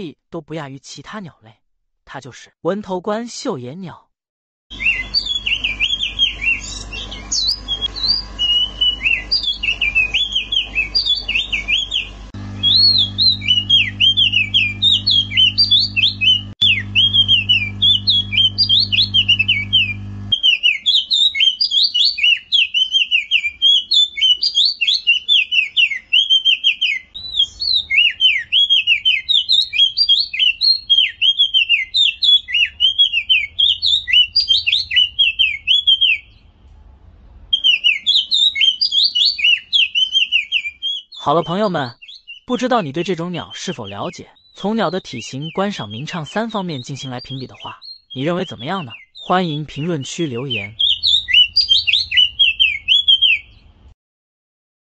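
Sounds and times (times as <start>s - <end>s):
songbird chirping and trilling: 4.7s - 36.5s, 37.6s - 53.7s.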